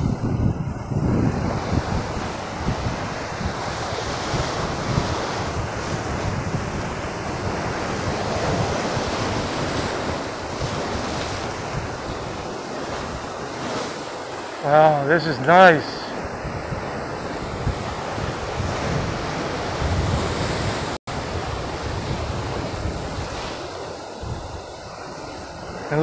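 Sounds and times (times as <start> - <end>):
waves breaking over rocks: 0.0 - 26.0
wind buffeting microphone: 0.0 - 26.0.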